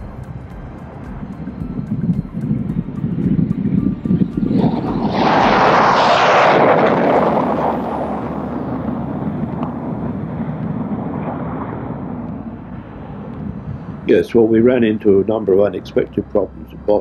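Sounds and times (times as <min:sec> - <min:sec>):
jet aircraft taking off: 0:00.0 - 0:17.0.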